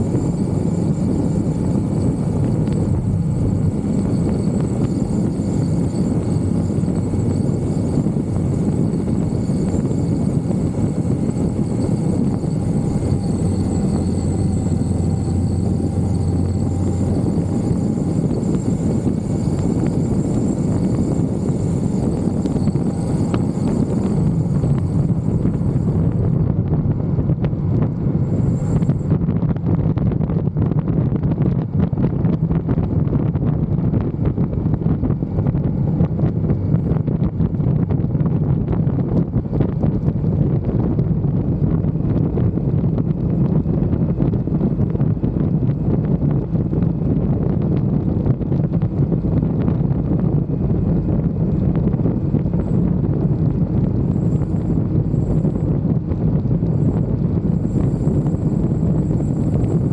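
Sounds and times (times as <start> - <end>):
motorcycle engine droning: 0.0 - 59.9
wind on microphone: 0.0 - 59.9.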